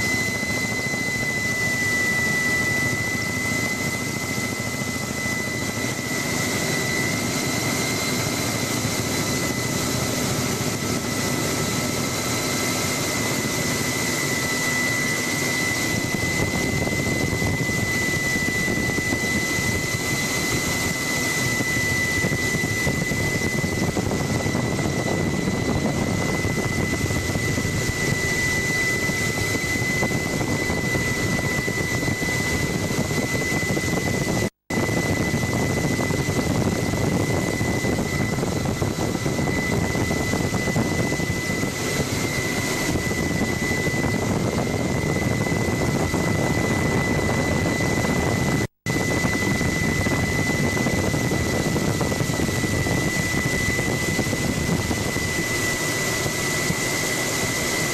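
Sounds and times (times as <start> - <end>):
helicopter engine and rotor: 0.0 - 57.9
high-pitched whine: 0.0 - 57.9.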